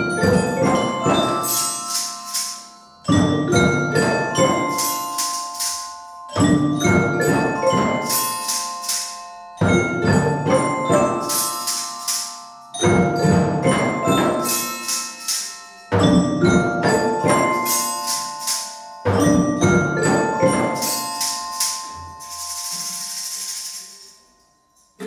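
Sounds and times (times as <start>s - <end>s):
other percussion: 0.0s - 25.0s
tuned mallet percussion ensemble: 0.0s - 25.0s.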